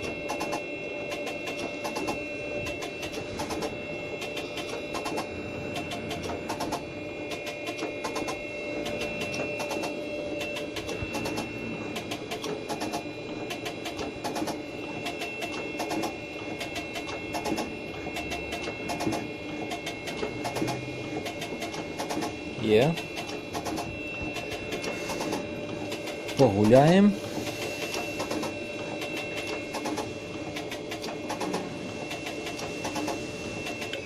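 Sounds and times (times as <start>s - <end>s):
machine tool whining: 0.0s - 34.0s.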